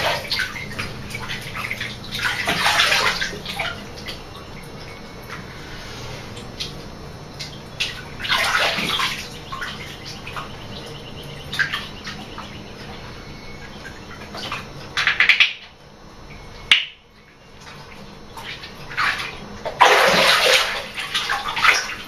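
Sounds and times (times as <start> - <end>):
water splashing in a bathtub: 0.0 - 22.0.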